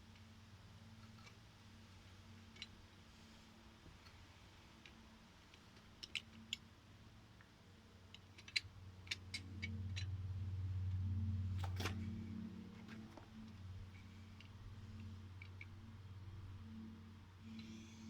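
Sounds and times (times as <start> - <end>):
low electric hum: 0.0 - 18.0.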